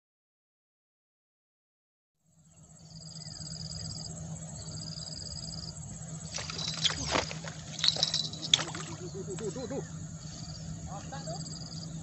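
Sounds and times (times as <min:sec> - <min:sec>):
high-pitched whine: 0:02.3 - 0:12.0
low hum: 0:02.3 - 0:12.0.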